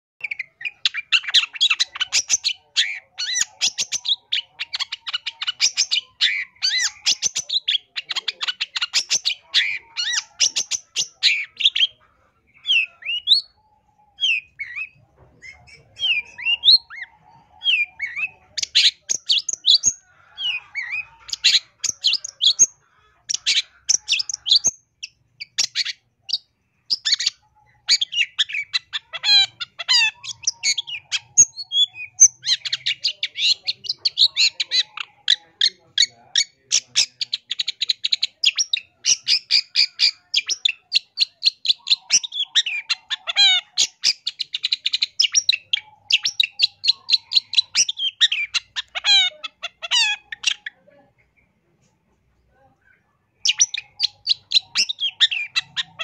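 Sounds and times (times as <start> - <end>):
shrike singing: 0.2 - 50.9.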